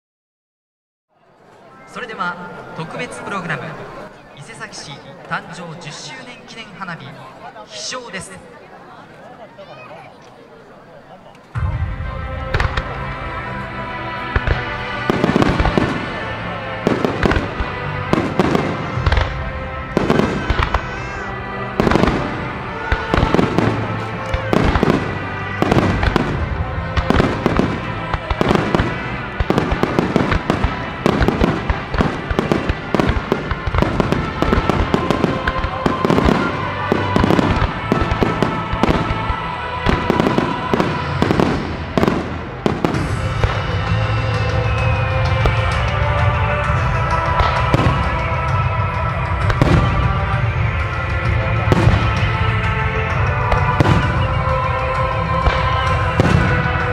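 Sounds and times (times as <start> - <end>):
music playing: 1.2 - 9.2, 10.7 - 56.9.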